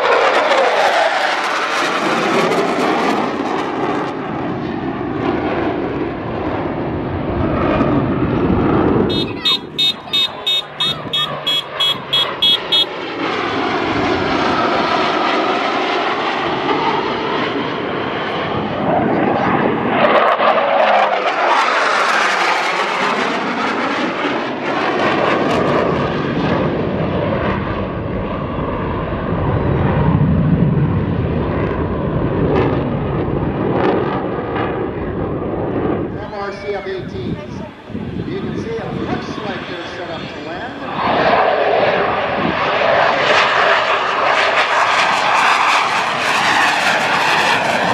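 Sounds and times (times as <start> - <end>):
fighter jets flying past: 0.0 - 47.9.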